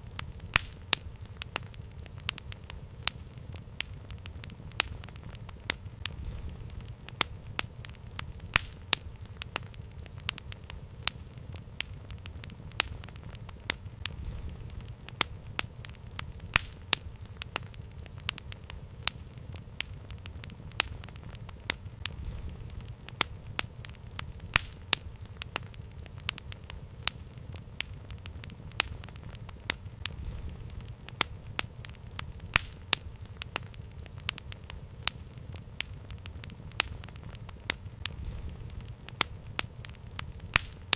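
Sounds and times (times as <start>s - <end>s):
burning wood crackling and popping: 0.0s - 40.9s
low rumble of flames: 0.0s - 40.9s.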